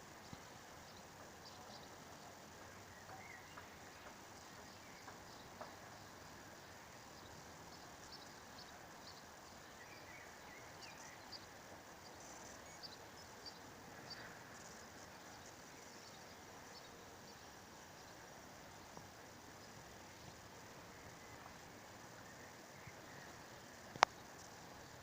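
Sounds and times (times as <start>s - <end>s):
faint background hiss: 0.0s - 25.0s
faint high ticks or chirps: 0.0s - 25.0s.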